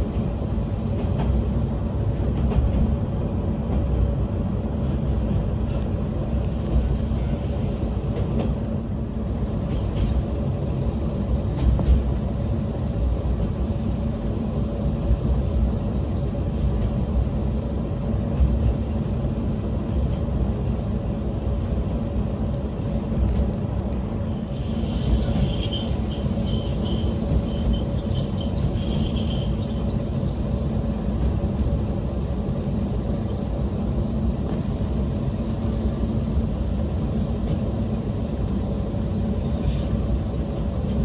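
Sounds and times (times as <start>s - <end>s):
railcar low rumble: 0.0s - 41.0s.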